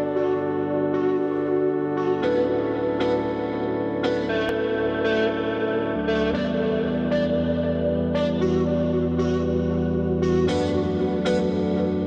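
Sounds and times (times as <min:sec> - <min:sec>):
instrumental music sustained chords: 0:00.0 - 0:12.0.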